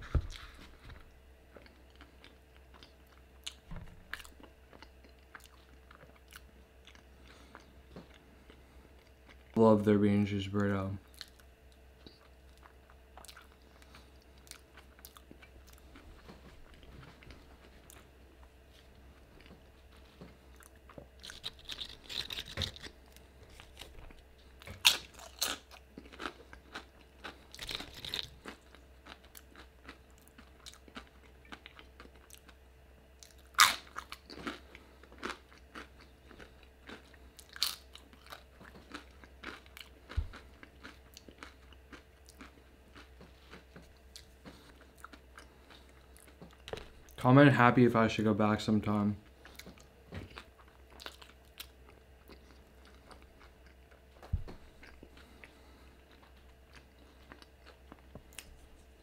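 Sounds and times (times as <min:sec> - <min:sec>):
person chewing food: 0:00.0 - 0:09.6, 0:11.0 - 0:47.2, 0:49.2 - 0:59.0.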